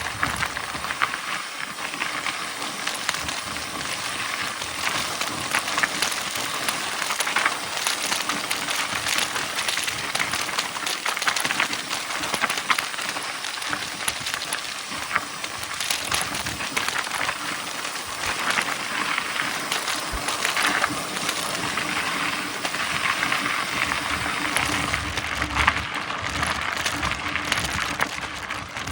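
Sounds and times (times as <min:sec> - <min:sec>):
bike tyres crunching on dirt: 0:00.0 - 0:28.9.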